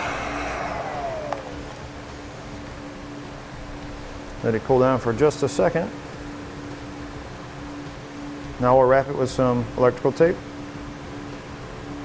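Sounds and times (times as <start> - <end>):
faint steady hum: 0.0 - 12.0
heat gun fan whine spinning down: 0.0 - 12.0.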